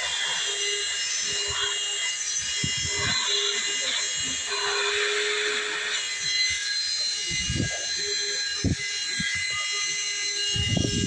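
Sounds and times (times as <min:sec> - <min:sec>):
cooling fan whining: 0:00.9 - 0:11.0.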